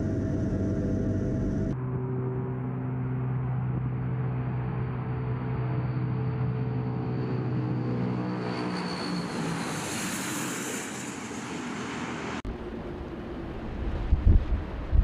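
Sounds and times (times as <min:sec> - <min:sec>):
turboprop engines droning: 0:00.0 - 0:15.0
wind: 0:00.0 - 0:15.0.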